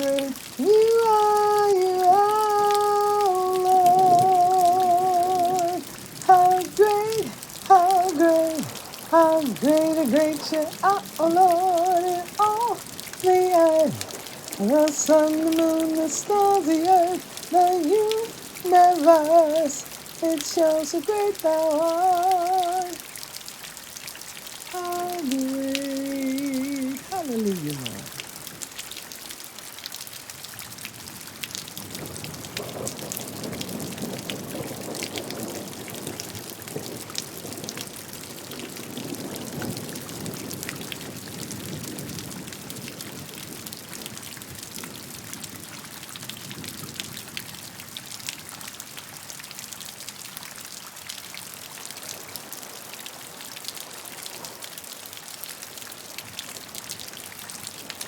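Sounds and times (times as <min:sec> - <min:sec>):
steady rain with dripping drops: 0:00.0 - 0:58.0.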